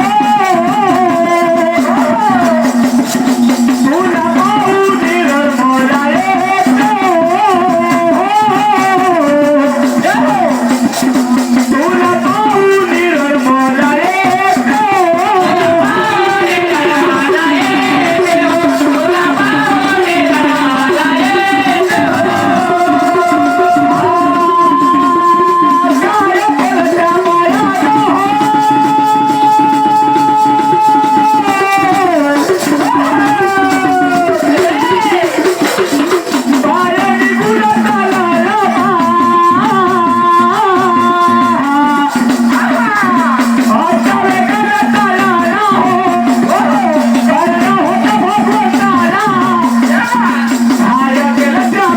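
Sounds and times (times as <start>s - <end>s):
person singing devotional song: 0.0s - 51.9s
rattling shaker percussion: 0.0s - 51.9s.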